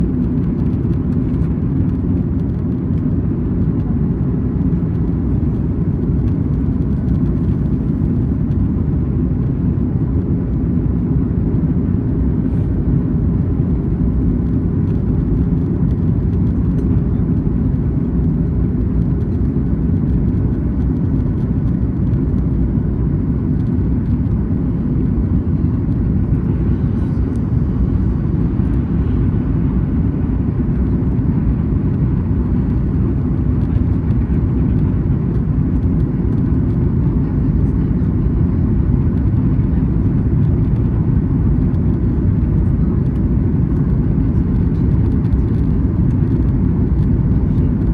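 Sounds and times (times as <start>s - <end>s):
airliner cabin jet engine rumble: 0.0s - 47.9s.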